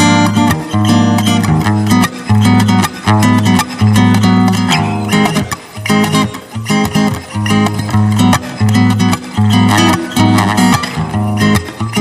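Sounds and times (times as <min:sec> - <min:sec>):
acoustic guitar strummed: 0:00.0 - 0:12.0.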